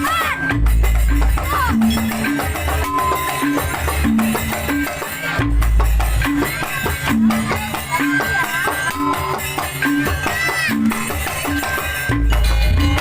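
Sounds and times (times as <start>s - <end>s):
deep repeating beat: 0.0s - 13.0s.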